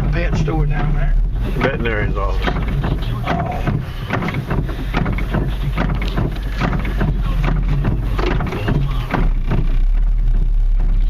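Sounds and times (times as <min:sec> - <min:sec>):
light taps and knocks: 0:00.0 - 0:09.7
vehicle drone: 0:00.0 - 0:11.0.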